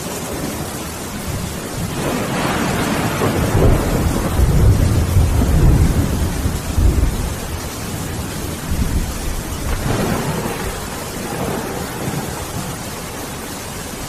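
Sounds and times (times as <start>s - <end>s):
heavy rain: 0.0s - 14.0s
thunder rumbling: 0.0s - 14.0s.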